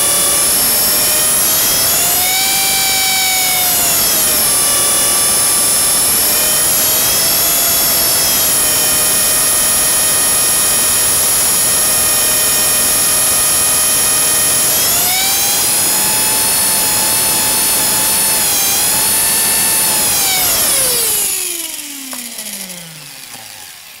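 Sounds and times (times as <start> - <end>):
rc helicopter motor whining: 0.0 - 24.0.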